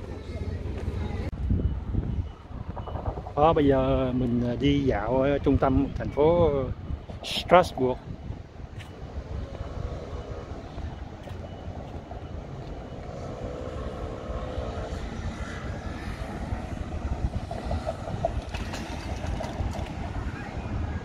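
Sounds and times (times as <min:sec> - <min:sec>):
faint vehicle hum: 0:00.0 - 0:21.0
traffic rumble: 0:00.0 - 0:21.0.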